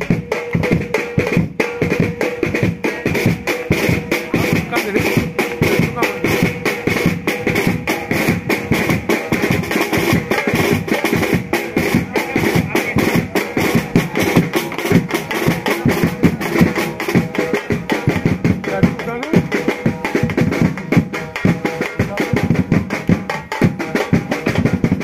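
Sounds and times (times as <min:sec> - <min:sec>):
loud fast drumming: 0:00.0 - 0:25.0
music: 0:00.0 - 0:25.0.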